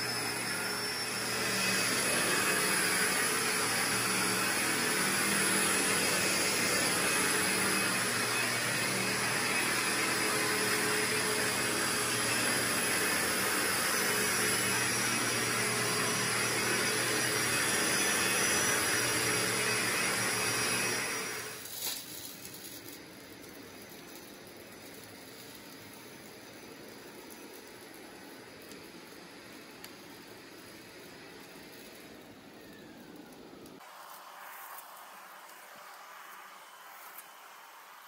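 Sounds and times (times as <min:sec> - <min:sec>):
vacuum cleaner running: 0:00.0 - 0:21.8, 0:24.9 - 0:38.0.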